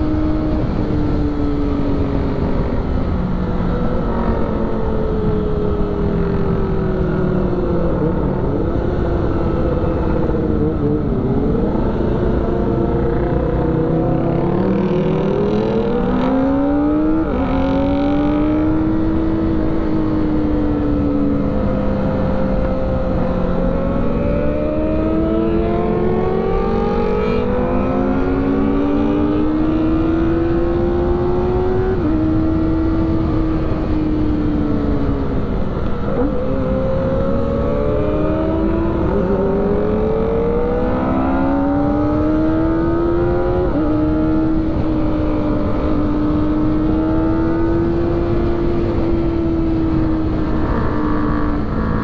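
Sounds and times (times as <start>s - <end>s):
motorcycle engine revving: 0.0s - 52.0s
rush of wind: 0.0s - 52.0s.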